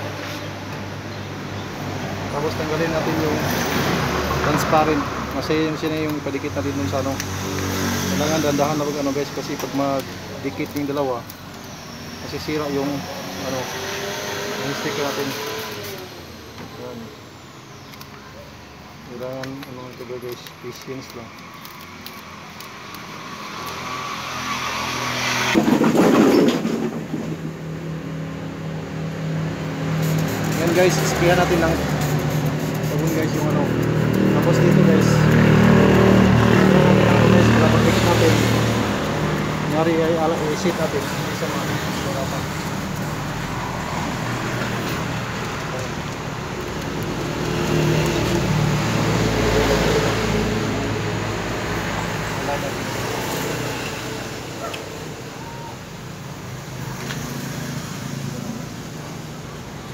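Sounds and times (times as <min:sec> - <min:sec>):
vehicle passing by: 0:00.0 - 0:11.2, 0:11.8 - 0:17.1, 0:22.8 - 0:59.5
road traffic: 0:00.0 - 0:59.9.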